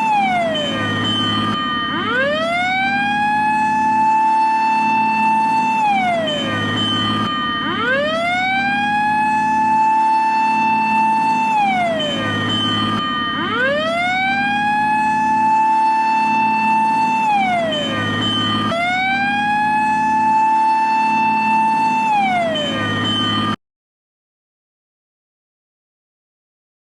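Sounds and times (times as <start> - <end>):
fire engine siren wailing: 0.0 - 23.6.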